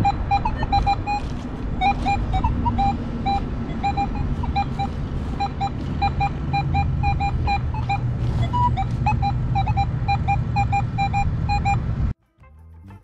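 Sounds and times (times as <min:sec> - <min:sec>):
metal detector high beeps: 0:00.0 - 0:11.8.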